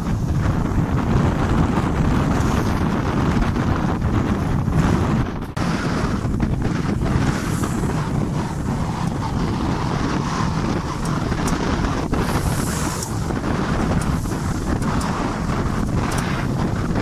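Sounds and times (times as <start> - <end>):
choppy water rushing along hull: 0.0 - 17.0
wind blowing across microphone: 0.0 - 17.0.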